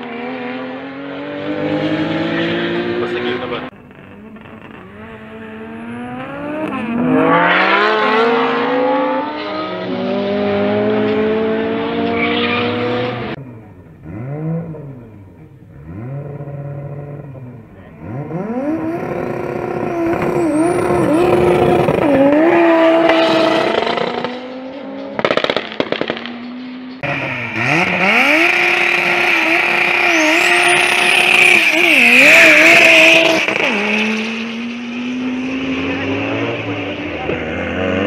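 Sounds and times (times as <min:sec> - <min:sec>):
drag car accelerating: 0:00.0 - 0:38.0.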